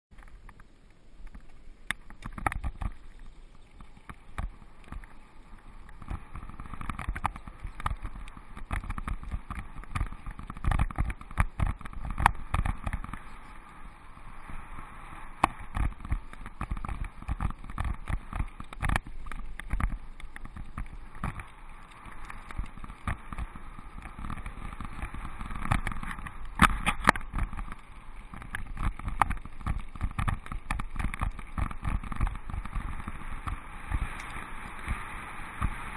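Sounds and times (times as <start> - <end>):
bike tyre rumble on gravel: 1.3 - 35.9.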